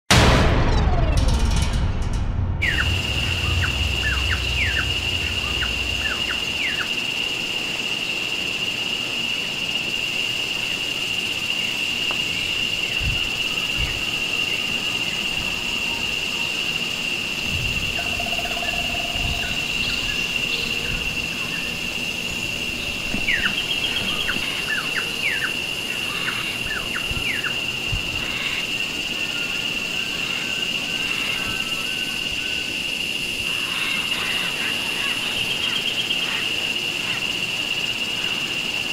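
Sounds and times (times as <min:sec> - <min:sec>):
high-pitched insect drone: 0:02.6 - 0:38.9.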